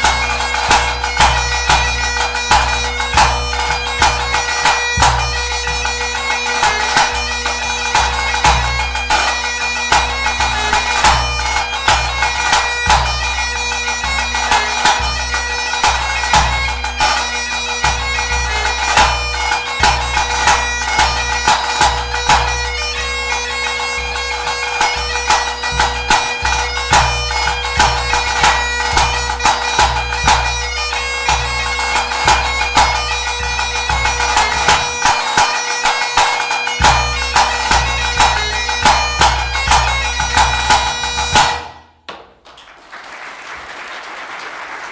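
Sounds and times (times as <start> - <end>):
bagpipe playing a quick tune: 0.0 - 41.5.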